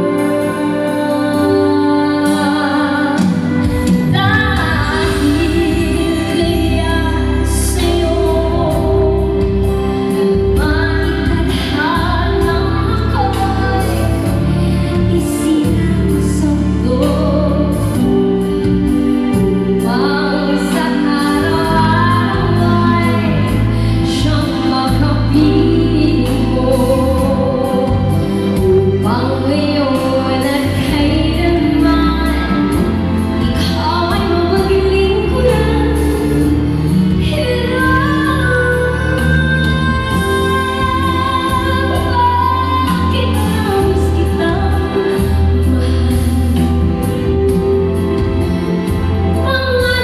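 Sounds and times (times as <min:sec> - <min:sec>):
woman singing ballad over loudspeakers: 0:00.0 - 0:50.0.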